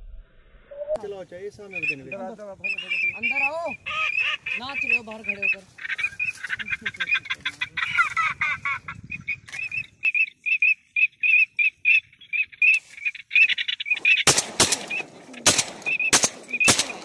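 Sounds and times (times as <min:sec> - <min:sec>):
ducks squawking: 0:01.6 - 0:17.0.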